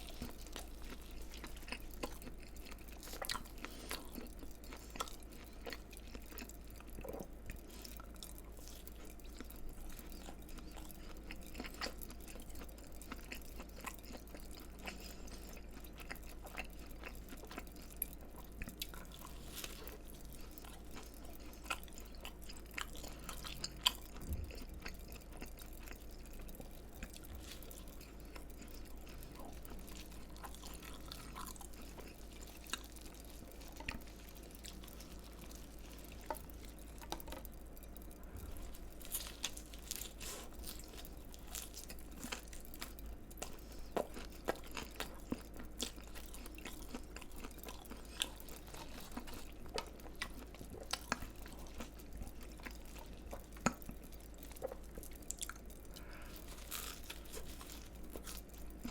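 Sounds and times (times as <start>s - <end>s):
crunchy food chewing: 0.0s - 58.9s.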